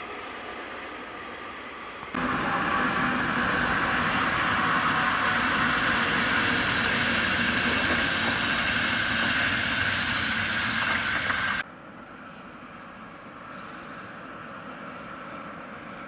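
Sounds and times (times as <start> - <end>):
passenger train rumbling past: 0.0 - 16.0.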